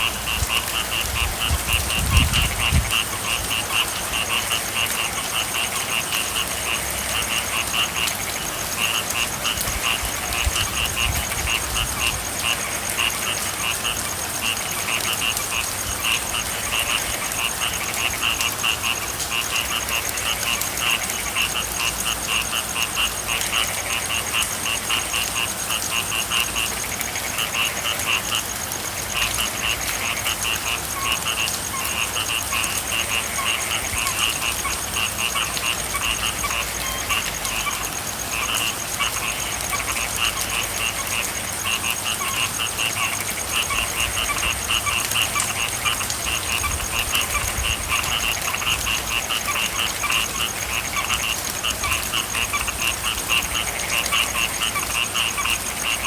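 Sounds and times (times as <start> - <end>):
frogs calling: 0.0 - 56.0
rain hiss: 0.0 - 56.0.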